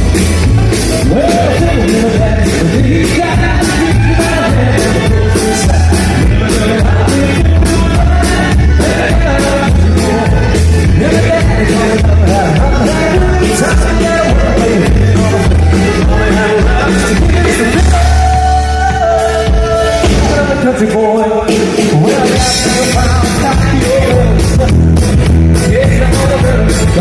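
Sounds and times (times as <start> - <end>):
live band playing: 0.0 - 27.0
person singing lead vocal: 0.0 - 27.0.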